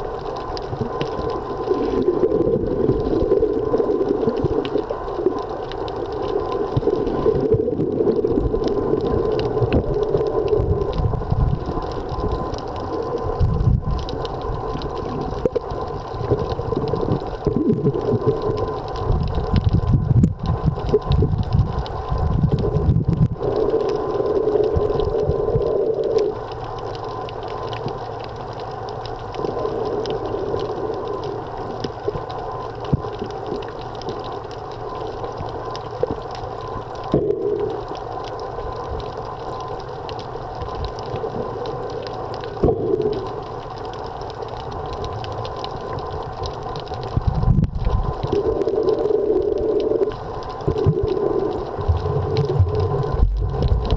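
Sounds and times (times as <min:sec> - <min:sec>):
muffled underwater rush: 0:00.0 - 0:53.9.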